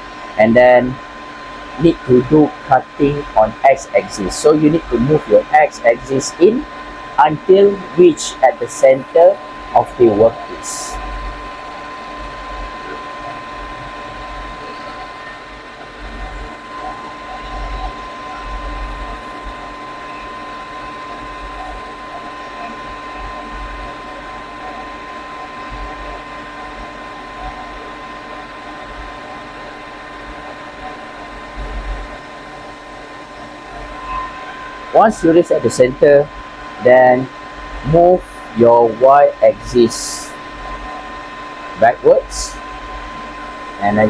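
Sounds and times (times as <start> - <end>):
high-pitched lathe whine: 0.0 - 44.0.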